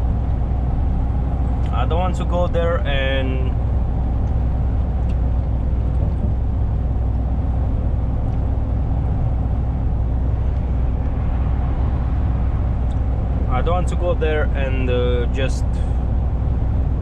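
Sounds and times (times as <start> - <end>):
lorry engine drone: 0.0 - 17.0
road noise: 0.0 - 17.0.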